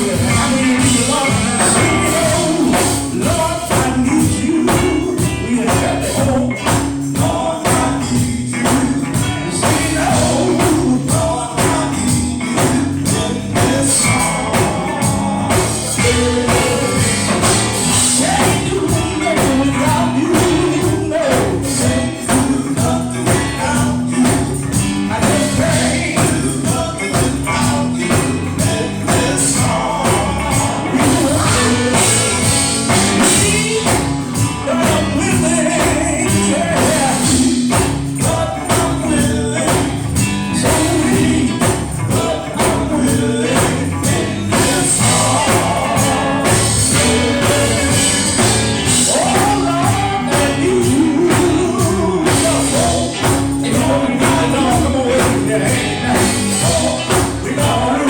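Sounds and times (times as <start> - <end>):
band playing gospel music: 0.0 - 58.0
tambourine shaking: 0.0 - 58.0
voices singing: 0.0 - 58.0.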